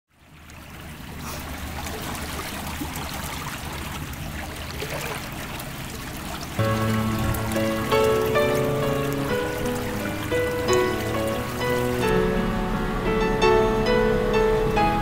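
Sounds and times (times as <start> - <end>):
small waves lapping against hull: 0.1 - 12.5.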